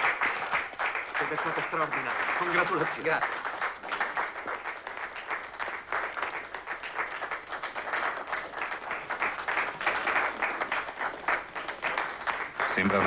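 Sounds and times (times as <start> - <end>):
group of people applauding: 0.0 - 13.0.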